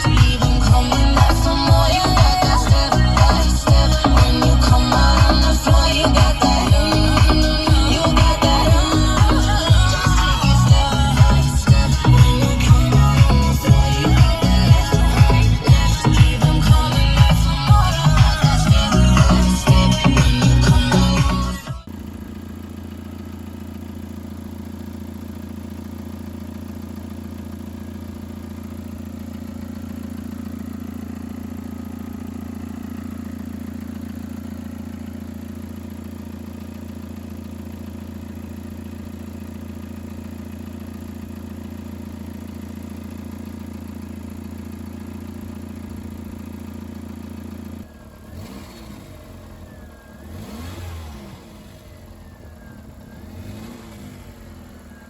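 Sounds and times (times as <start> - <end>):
car engine running: 0.0 - 55.0
engine blipped: 0.0 - 55.0.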